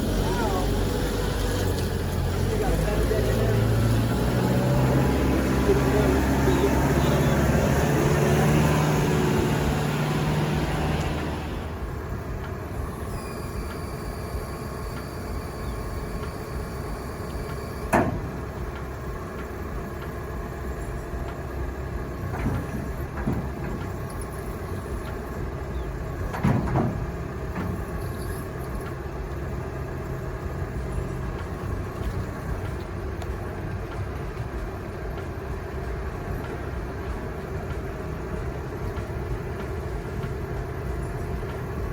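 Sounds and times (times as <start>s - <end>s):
truck engine hum: 0.0s - 41.9s.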